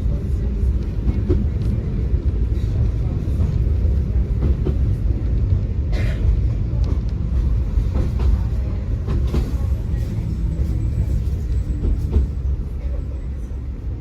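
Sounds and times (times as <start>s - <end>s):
tram wheels rumbling: 0.0s - 14.0s.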